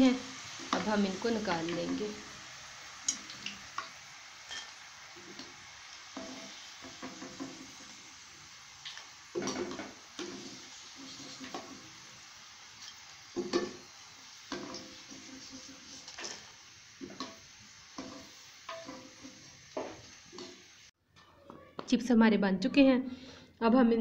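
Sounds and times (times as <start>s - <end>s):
potato slices sizzling in oil: 0.0s - 21.0s.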